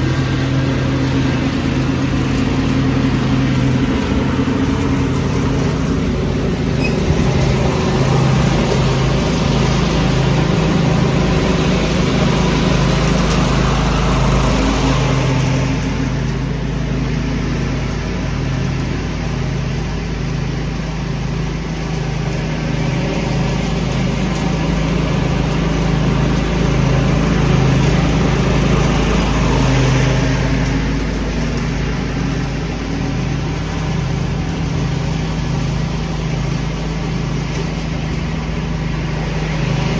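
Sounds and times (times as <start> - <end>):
lawn tractor engine running: 0.0 - 39.9
leaf vacuum rushing: 0.0 - 39.9.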